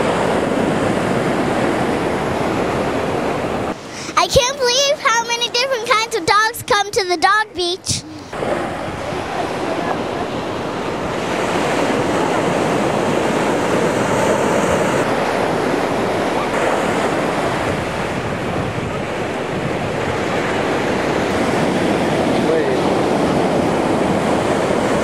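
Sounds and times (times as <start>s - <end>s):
waves breaking on beach: 0.0s - 25.0s.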